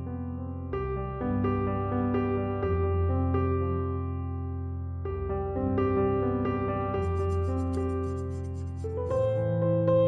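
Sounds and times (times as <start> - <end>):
calm keyboard music: 0.0 - 10.0.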